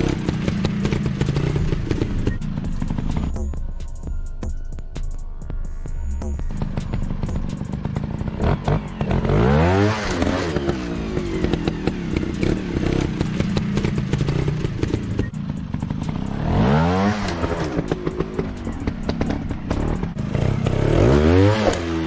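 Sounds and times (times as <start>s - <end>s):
dirt bike engine revving: 0.0s - 3.8s, 6.2s - 22.0s.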